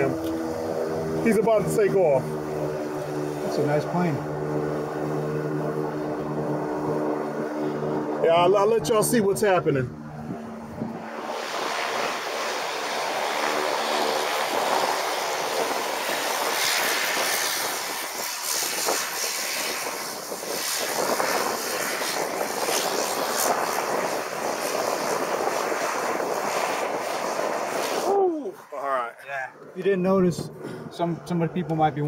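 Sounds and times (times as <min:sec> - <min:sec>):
propeller plane engine: 0:00.0 - 0:32.0
wind rushing over microphone: 0:00.0 - 0:32.0.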